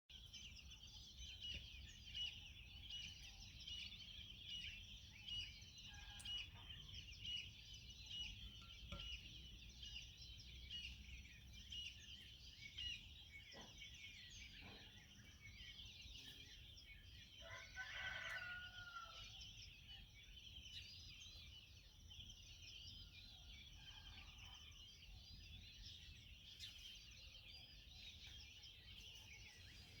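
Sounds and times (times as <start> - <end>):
small birds chirping: 0.1 - 30.0.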